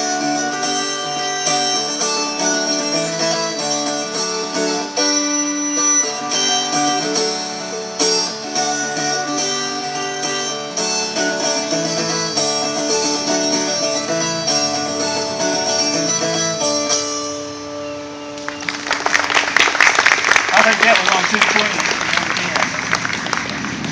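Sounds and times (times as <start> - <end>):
plucked string instruments playing: 0.0 - 23.9.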